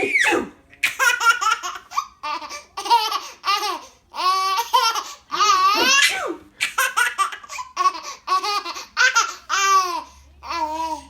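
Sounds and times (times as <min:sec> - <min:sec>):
baby laughing: 0:00.8 - 0:11.0.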